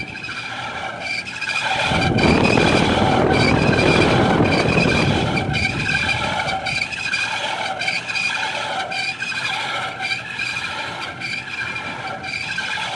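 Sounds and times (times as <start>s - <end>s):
fan motor high-pitched squeal: 0.0s - 12.9s.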